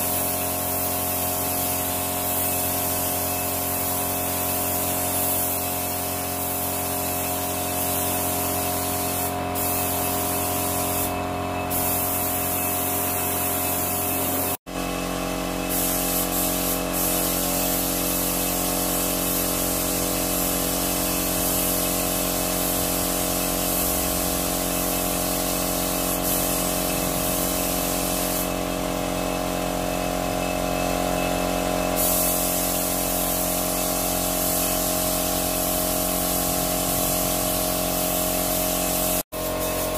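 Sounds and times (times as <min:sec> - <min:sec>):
spray gun hissing: 0:00.0 - 0:28.8, 0:31.9 - 0:39.9.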